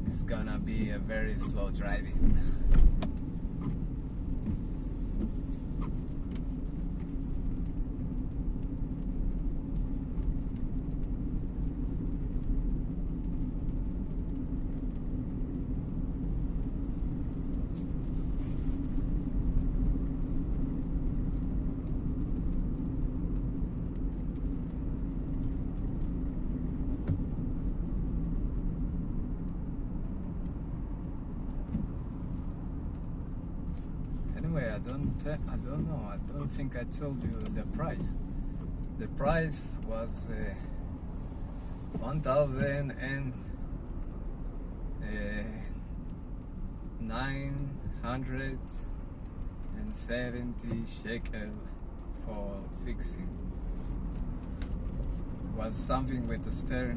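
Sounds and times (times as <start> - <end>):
car driving on wet road: 0.0 - 56.9.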